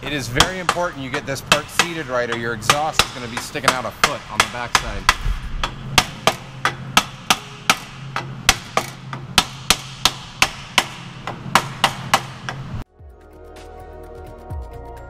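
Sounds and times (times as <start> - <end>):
rubber mallet striking metal pipe: 0.1 - 12.7.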